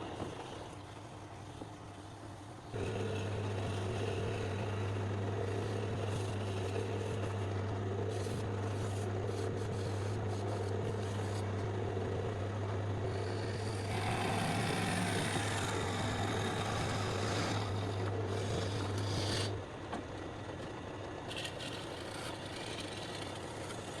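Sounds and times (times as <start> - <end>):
woodworking machine motor hum: 0.0 - 24.0
wood rasping: 2.7 - 19.6, 21.3 - 24.0.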